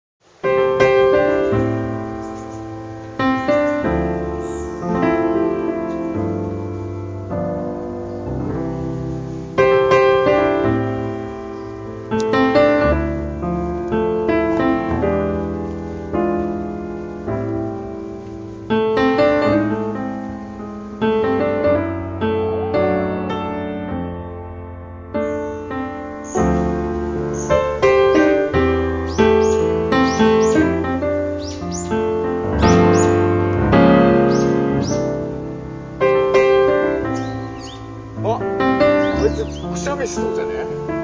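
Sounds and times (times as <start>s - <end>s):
gentle piano chords: 0.2s - 41.0s.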